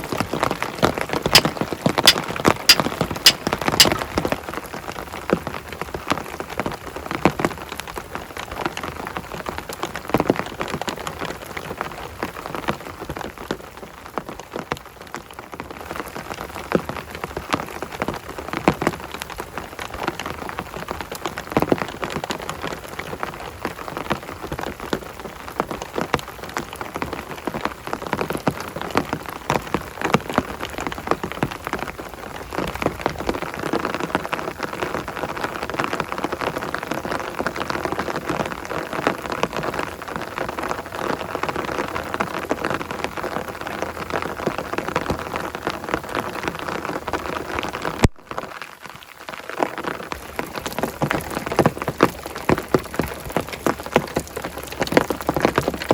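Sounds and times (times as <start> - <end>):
heavy rain falling: 3.3 - 55.9.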